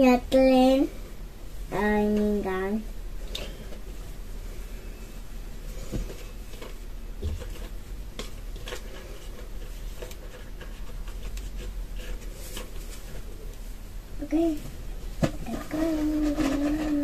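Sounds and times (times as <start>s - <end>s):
low room hum: 0.0s - 17.0s
hair rustling: 2.8s - 17.0s.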